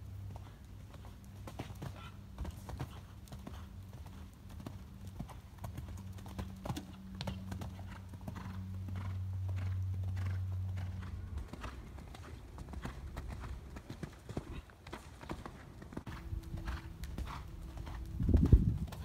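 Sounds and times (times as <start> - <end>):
low steady hum: 0.0 - 19.0
horse hoofbeats on sand: 0.2 - 19.0.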